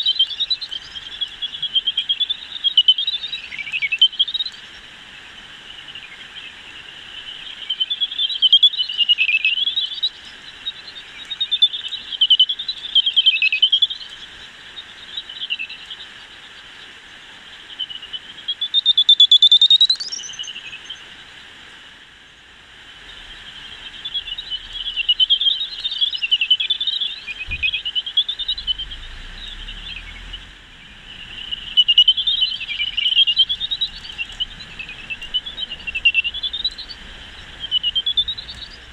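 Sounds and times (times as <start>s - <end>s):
bat echolocation chirps: 0.0s - 21.2s, 23.0s - 38.9s.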